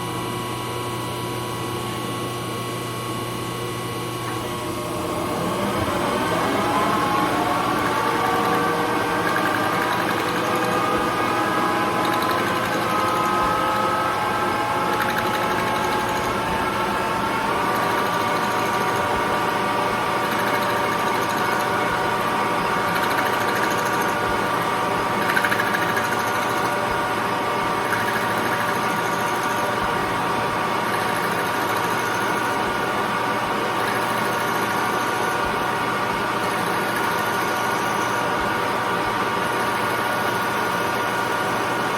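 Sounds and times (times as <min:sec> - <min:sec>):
metal lathe whine: 0:00.0 - 0:41.9.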